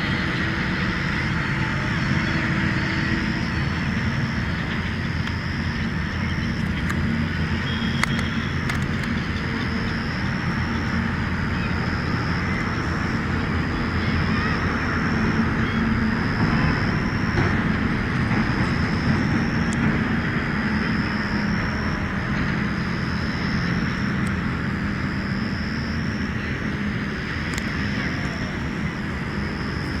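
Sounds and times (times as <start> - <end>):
engine drone with high whine: 0.0 - 30.0.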